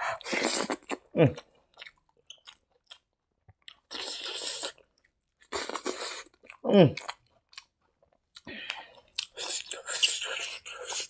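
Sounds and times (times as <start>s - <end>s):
person chewing crunchy food: 0.1s - 11.0s.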